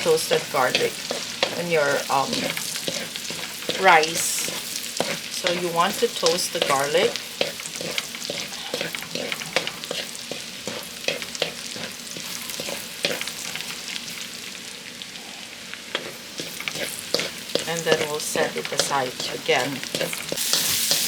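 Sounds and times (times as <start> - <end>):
utensil scraping a pan: 0.0 - 13.8, 15.9 - 21.0
garlic sizzling in a pan: 0.0 - 21.0.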